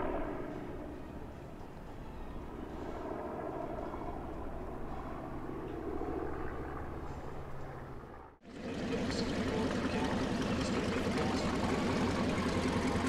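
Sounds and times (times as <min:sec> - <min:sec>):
radial piston engines droning: 0:00.0 - 0:13.0.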